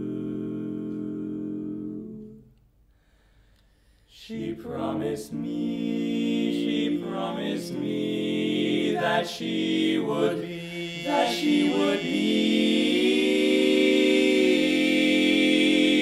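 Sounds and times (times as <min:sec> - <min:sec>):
male quartet singing a cappella: 0:00.0 - 0:02.4, 0:04.1 - 0:16.0.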